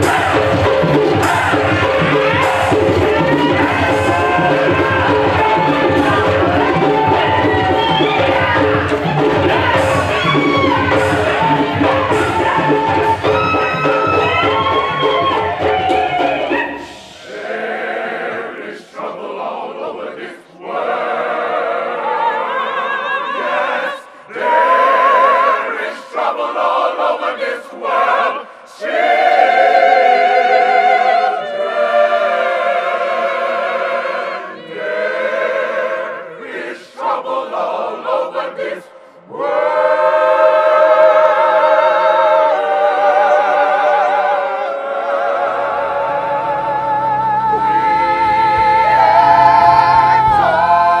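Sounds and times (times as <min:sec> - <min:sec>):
gospel choir singing: 0:00.0 - 0:51.0.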